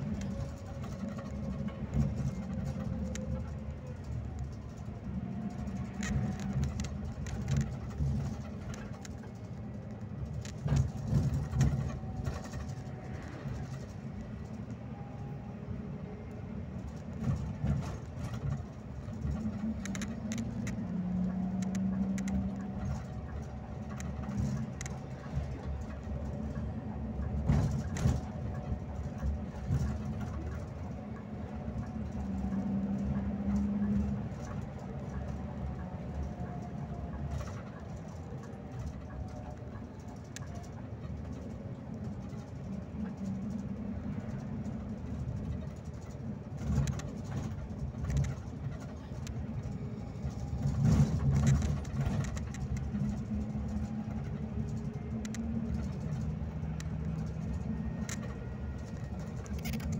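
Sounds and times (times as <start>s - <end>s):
bus bumps: 0.0s - 59.9s
bus engine and road rumble: 0.0s - 59.9s
bus interior rattling: 0.0s - 59.9s.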